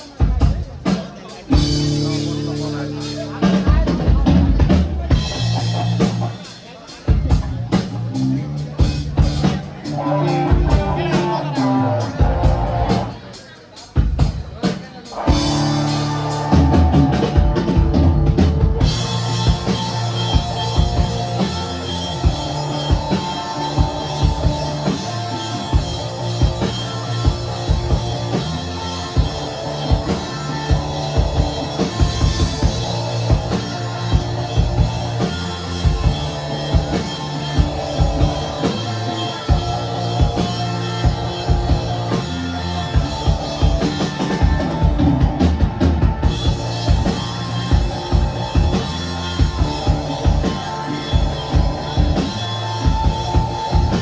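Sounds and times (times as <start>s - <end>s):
drum kit beat: 0.0s - 54.0s
rock band playing live: 0.0s - 54.0s.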